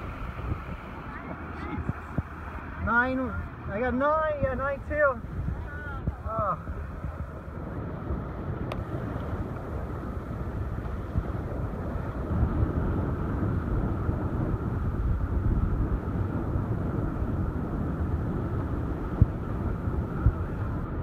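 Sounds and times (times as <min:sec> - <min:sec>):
water rushing along boat hull: 0:00.0 - 0:21.0
wind buffeting microphone: 0:00.0 - 0:21.0.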